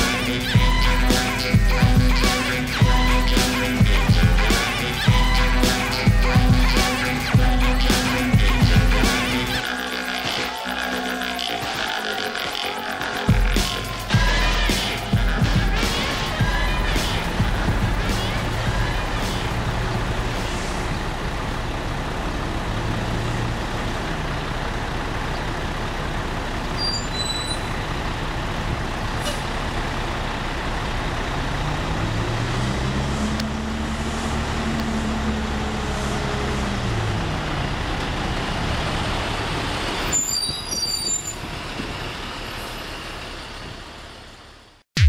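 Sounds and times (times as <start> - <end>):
truck diesel engine passing: 0.0 - 40.4, 41.0 - 44.8.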